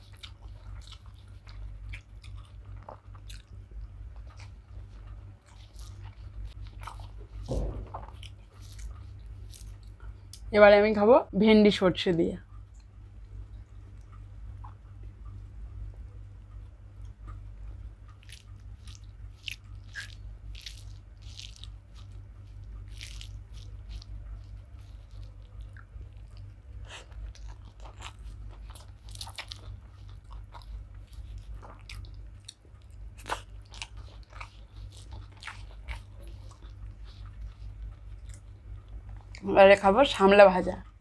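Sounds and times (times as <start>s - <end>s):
person chewing food: 0.0s - 10.5s, 12.5s - 39.5s
steady low hum: 0.0s - 41.0s.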